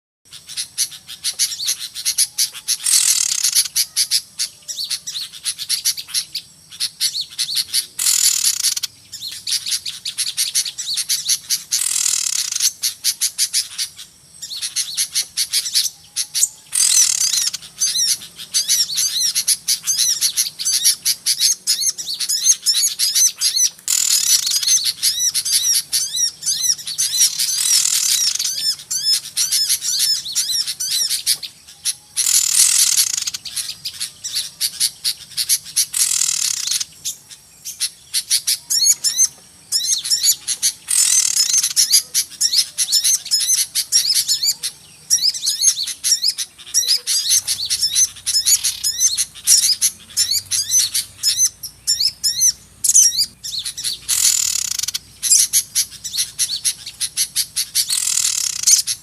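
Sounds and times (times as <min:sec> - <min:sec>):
harsh rasping bird squawks: 0:00.3 - 0:59.0
songbirds twittering: 0:00.3 - 0:59.0.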